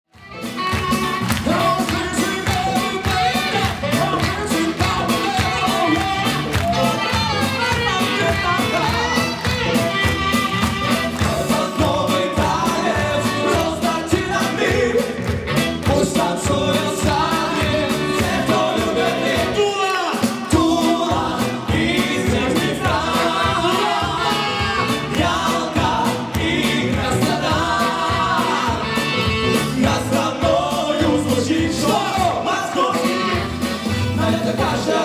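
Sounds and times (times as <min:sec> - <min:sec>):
steady beat: 0:00.2 - 0:33.8
male vocal group singing: 0:00.9 - 0:09.7, 0:11.0 - 0:35.0.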